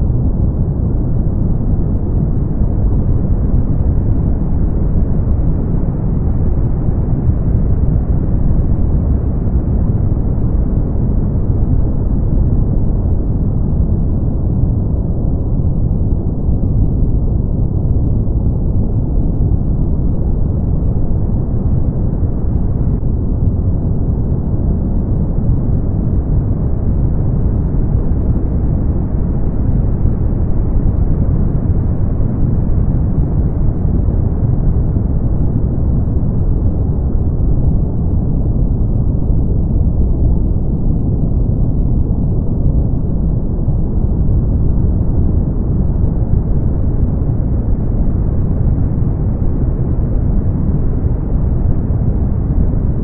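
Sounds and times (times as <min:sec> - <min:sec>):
brown noise: 0:00.0 - 0:53.0.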